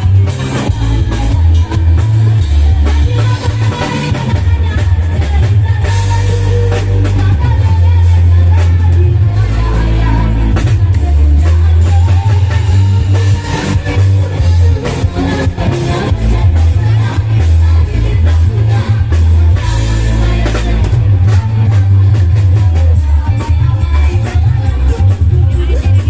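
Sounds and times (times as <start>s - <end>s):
electronic organ music: 0.0s - 26.0s
heavy bass line: 0.0s - 26.0s
steady drum beat: 0.0s - 26.0s.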